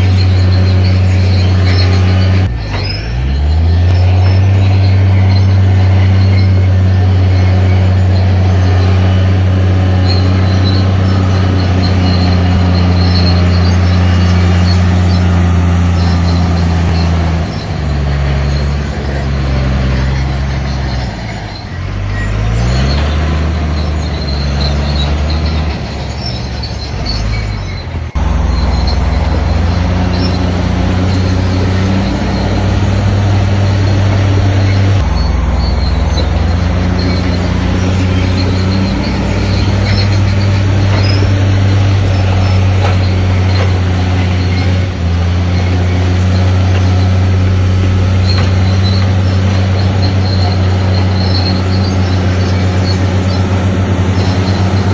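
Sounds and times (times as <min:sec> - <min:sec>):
heavy diesel engine drone: 0:00.0 - 0:54.9.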